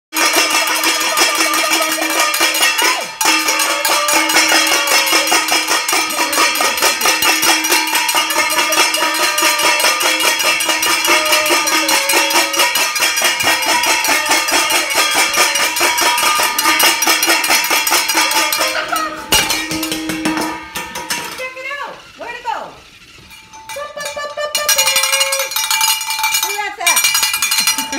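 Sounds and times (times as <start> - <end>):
cowbells clanging: 0.1 - 27.9.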